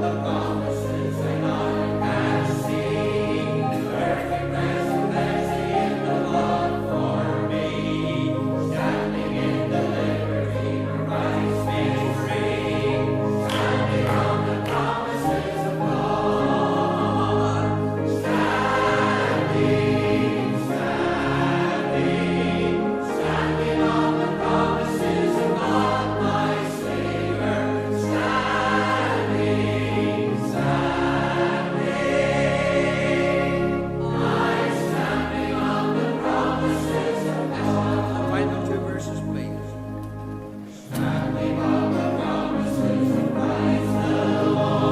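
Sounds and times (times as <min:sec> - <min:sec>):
choir singing a hymn: 0:00.0 - 0:44.9
instrumental accompaniment: 0:00.0 - 0:44.9.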